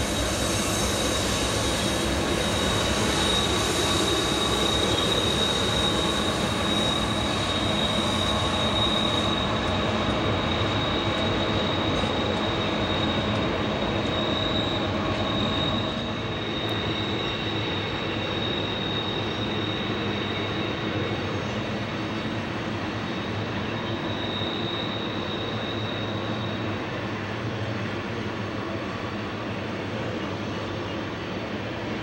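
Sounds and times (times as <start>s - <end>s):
high-pitched wheel flange squeal: 0.0s - 21.5s, 22.2s - 26.8s
freight train rumble: 0.0s - 32.0s.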